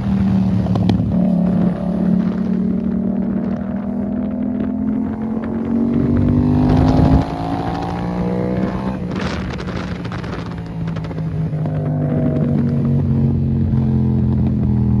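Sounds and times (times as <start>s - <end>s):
motorcycle engine under throttle: 0.0s - 15.0s.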